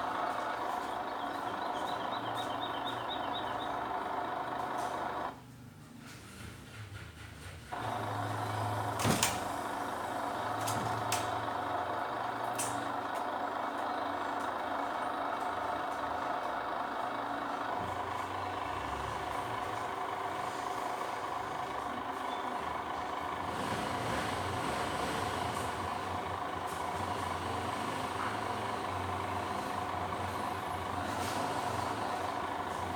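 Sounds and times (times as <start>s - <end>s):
heavy machine engine running: 0.0s - 5.4s, 6.7s - 32.9s.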